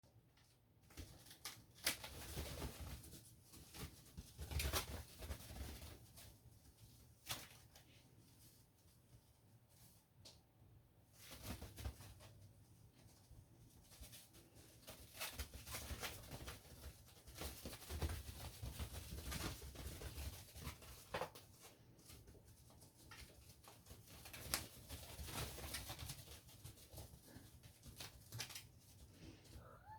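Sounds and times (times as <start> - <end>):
patter of paws: 0.0 - 29.9
kittens scampering at play: 0.1 - 29.9.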